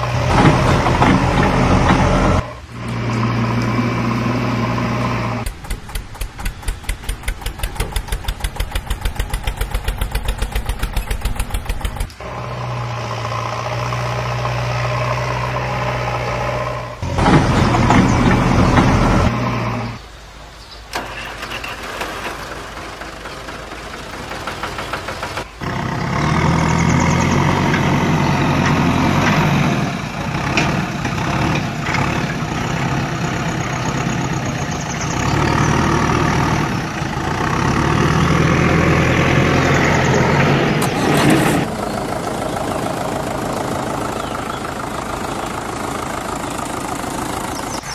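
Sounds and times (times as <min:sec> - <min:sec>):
vehicle engine running: 0:00.0 - 0:20.0, 0:21.0 - 0:47.9.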